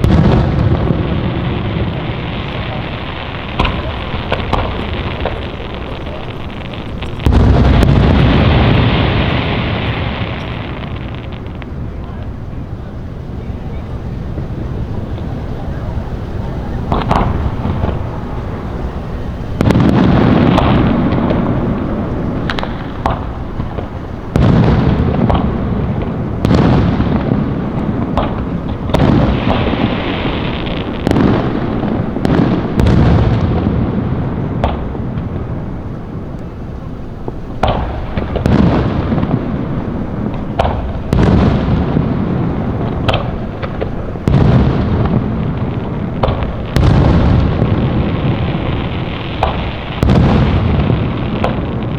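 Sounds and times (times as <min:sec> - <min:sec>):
fireworks booming: 0:00.0 - 0:51.9
fireworks cracks and pops: 0:00.0 - 0:51.9.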